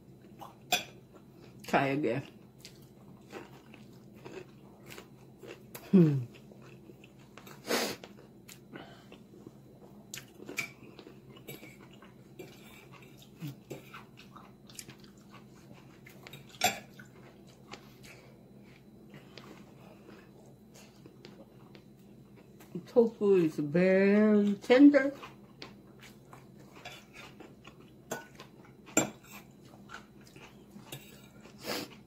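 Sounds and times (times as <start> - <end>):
person chewing fried food: 0.2 - 22.8, 25.1 - 32.0.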